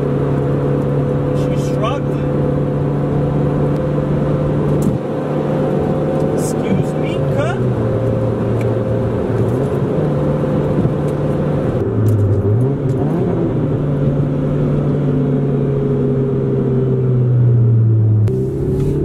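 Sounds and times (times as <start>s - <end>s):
car engine running: 0.0s - 19.0s
road and tyre noise: 0.0s - 19.0s.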